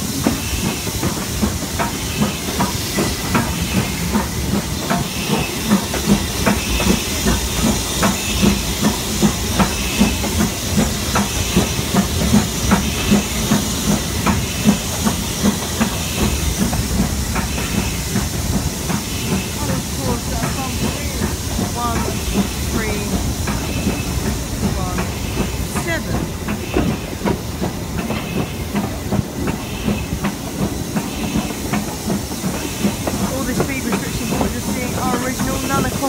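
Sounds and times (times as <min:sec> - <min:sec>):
steam hiss: 0:00.0 - 0:36.0
steam locomotive exhaust beats: 0:00.0 - 0:36.0
train running noise: 0:00.0 - 0:36.0.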